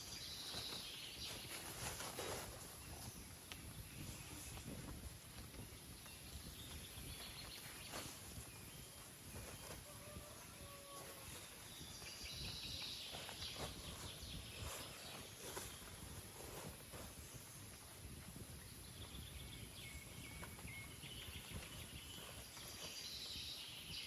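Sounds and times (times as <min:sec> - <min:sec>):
soft bird chirps: 0:00.0 - 0:24.0.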